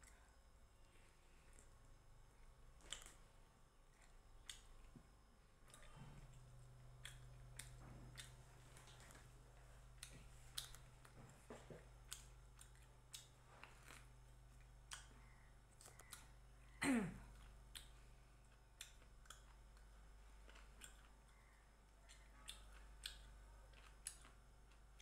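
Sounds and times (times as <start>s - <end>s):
chewing mouth clicks and smacks: 2.8s - 3.3s, 3.9s - 16.4s, 17.3s - 25.0s.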